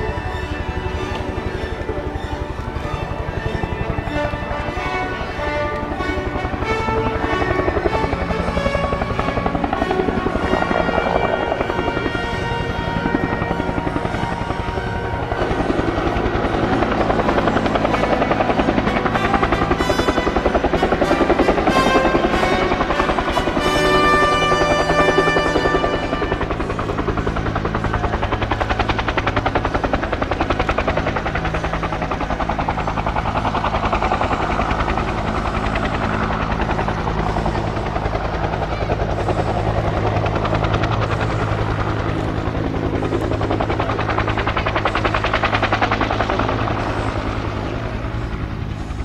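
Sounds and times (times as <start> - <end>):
helicopter rotor beating: 0.0 - 49.0
helicopter turbine engine: 0.0 - 49.0.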